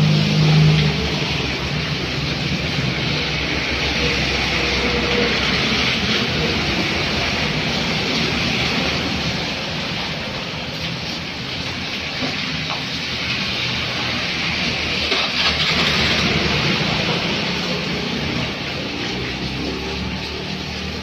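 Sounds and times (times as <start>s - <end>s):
car tyres hissing through water: 0.0s - 21.0s
engine running: 0.0s - 21.0s
tyres splashing through water: 0.0s - 21.0s
steady rain hiss: 0.1s - 15.2s, 15.8s - 21.0s.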